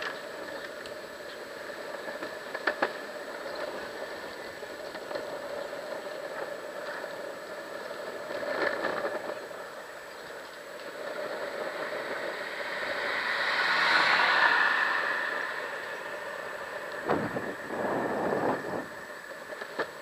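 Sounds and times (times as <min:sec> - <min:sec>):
longboard wheels rolling on asphalt: 0:00.0 - 0:20.0.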